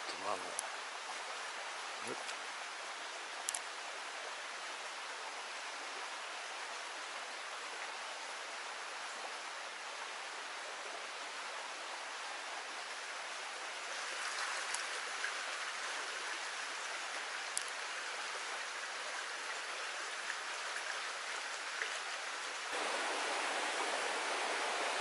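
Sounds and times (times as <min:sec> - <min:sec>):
stream water running: 0:00.0 - 0:25.0.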